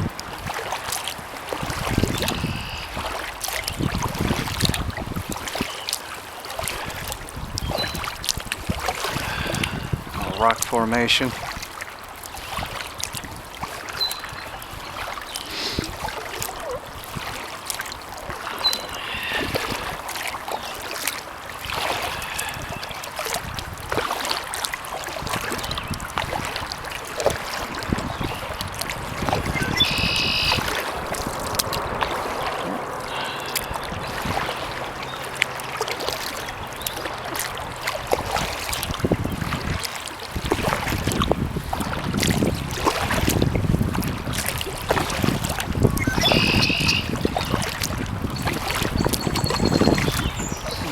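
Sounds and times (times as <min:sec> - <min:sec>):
kayak paddle strokes: 0:00.0 - 0:50.9
water splashing and dripping: 0:00.0 - 0:50.9.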